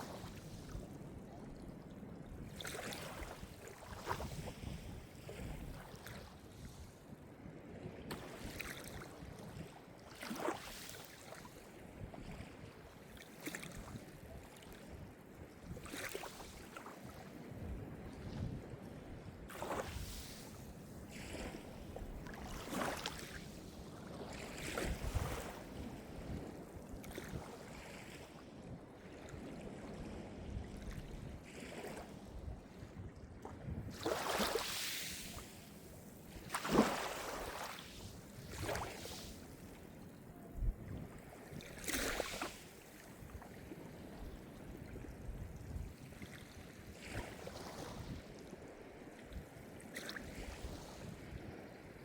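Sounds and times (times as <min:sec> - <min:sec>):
small waves breaking on shore: 0:00.0 - 0:52.0.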